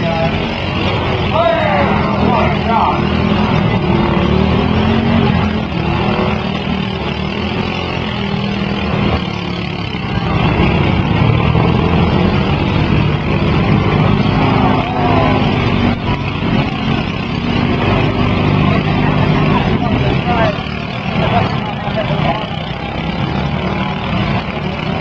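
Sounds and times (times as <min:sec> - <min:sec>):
lawn mower engines revving: 0:00.0 - 0:25.0.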